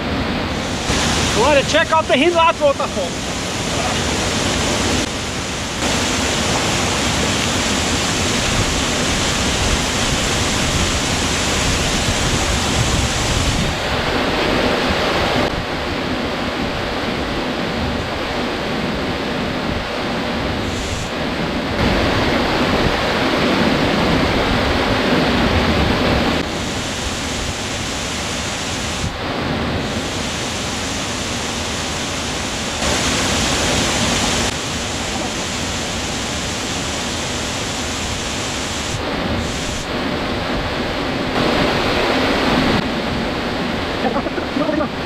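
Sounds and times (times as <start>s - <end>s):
waterfall rushing into pool: 0.0s - 45.0s.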